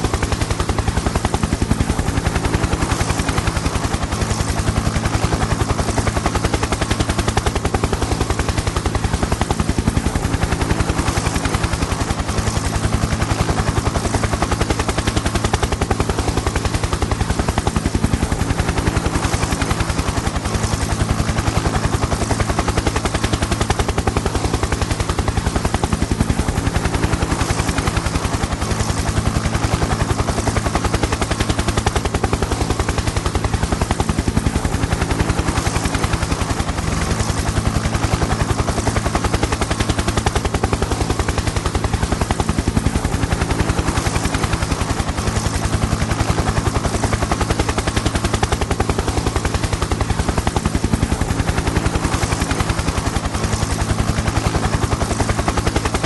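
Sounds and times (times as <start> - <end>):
helicopter engine drone: 0.0 - 56.0
helicopter rotor blades chopping: 0.0 - 56.0.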